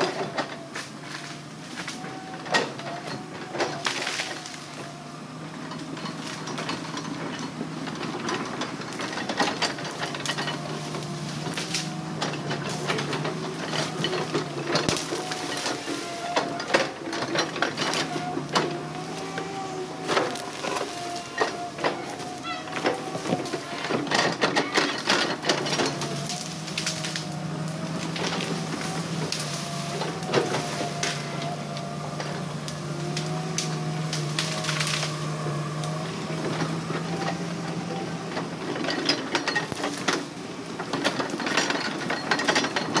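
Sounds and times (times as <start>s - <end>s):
diesel engine running under load: 0.0s - 43.0s
metallic clanks and knocks: 5.7s - 43.0s.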